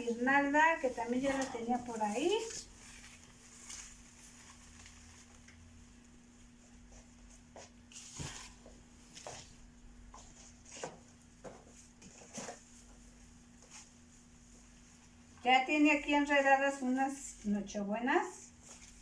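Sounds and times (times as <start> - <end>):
faint rustling: 0.0 - 17.6.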